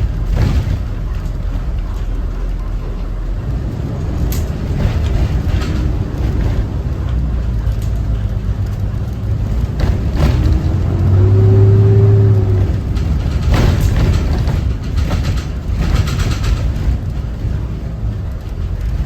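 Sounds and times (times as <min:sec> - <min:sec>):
clicks and rattles: 0:00.0 - 0:11.1, 0:12.2 - 0:19.0
diesel bus engine running: 0:00.0 - 0:19.0.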